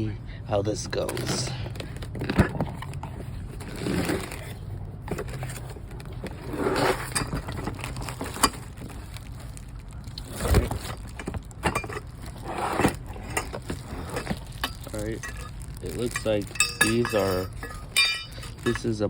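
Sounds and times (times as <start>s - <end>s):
cardboard packaging rustling: 0.7s - 19.0s.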